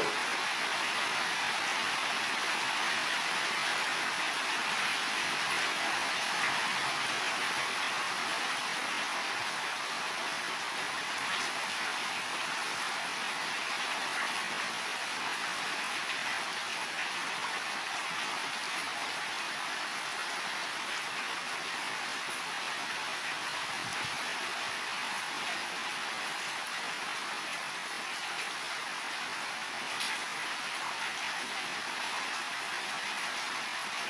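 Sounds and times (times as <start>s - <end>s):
heavy rain on roofs: 0.0s - 34.0s.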